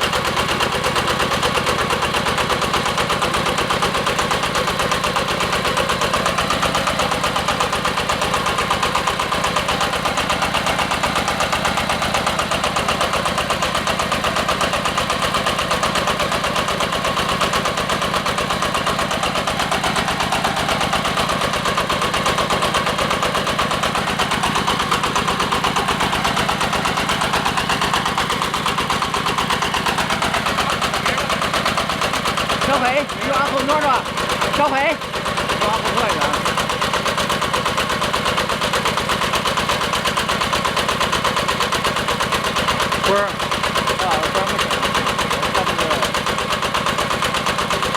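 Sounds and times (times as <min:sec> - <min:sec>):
diesel engine knocking steadily: 0:00.0 - 0:47.9.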